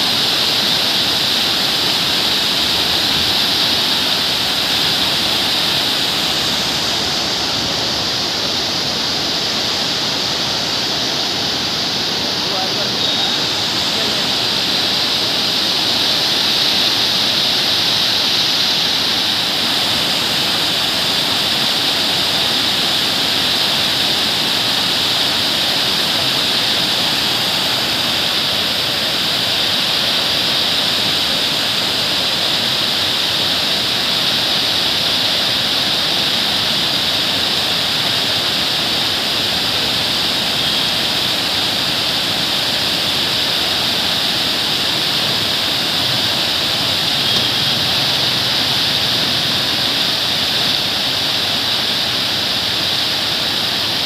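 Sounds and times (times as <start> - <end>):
water rushing over weir: 0.0 - 54.0.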